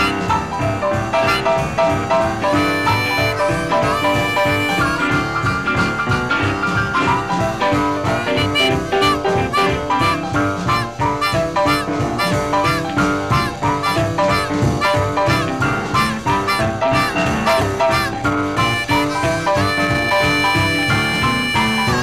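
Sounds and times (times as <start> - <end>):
instrumental music with beat: 0.0 - 22.0.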